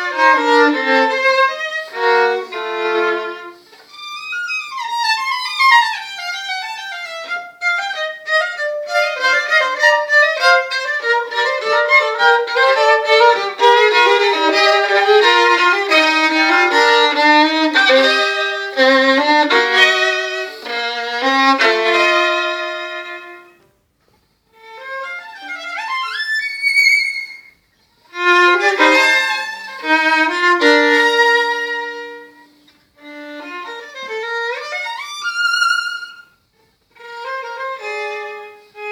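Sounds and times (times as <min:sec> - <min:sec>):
violin: 0:00.0 - 0:23.7, 0:24.4 - 0:38.9.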